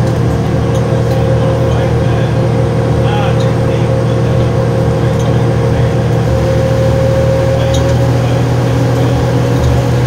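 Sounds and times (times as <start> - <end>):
bus diesel engine running: 0.0 - 10.0
steady whine: 0.0 - 10.0.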